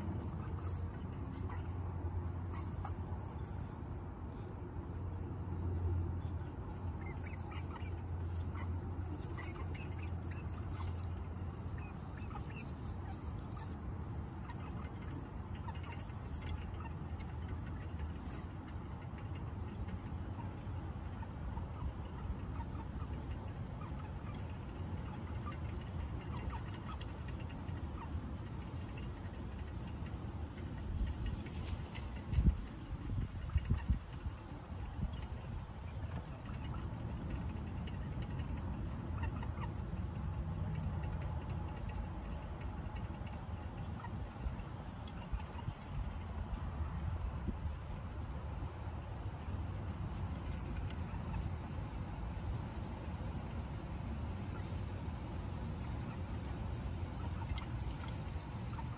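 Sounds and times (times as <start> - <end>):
hens clucking softly: 0.0 - 58.9
low steady hum: 0.0 - 58.9.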